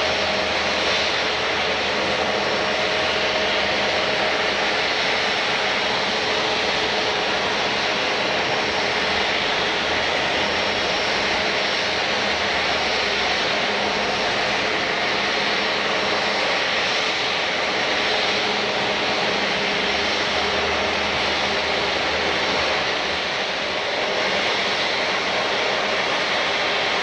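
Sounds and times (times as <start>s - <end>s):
airliner engines running: 0.0s - 27.0s.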